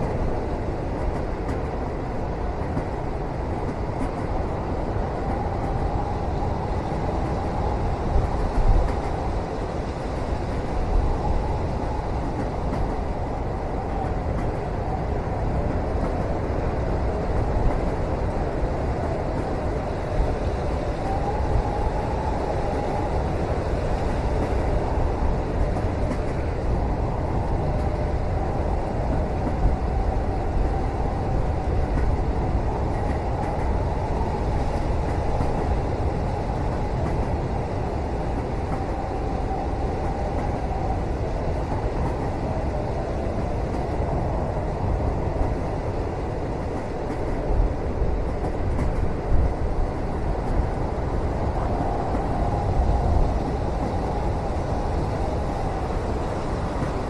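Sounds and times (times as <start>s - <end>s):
moving train rumble: 0.0s - 57.0s.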